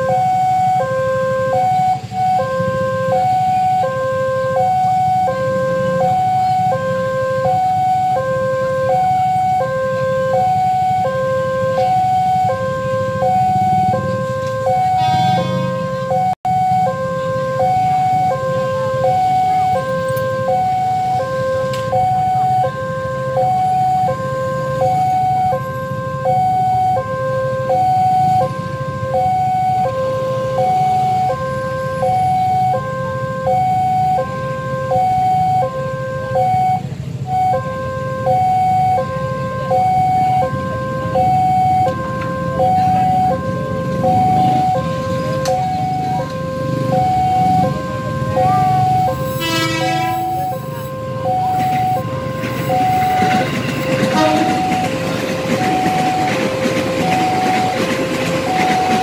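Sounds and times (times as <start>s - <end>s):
motorcycle engines idling: 0.0s - 59.0s.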